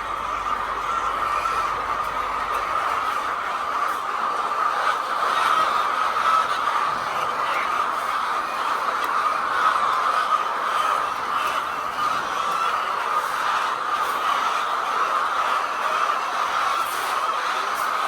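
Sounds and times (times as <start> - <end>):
flock of hens clucking: 0.0 - 18.0.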